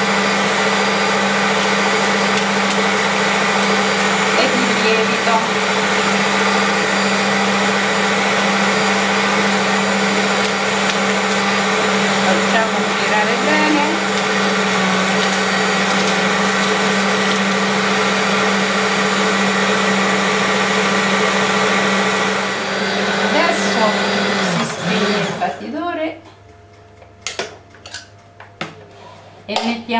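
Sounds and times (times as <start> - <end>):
hand mixer motor hum: 0.0 - 25.6.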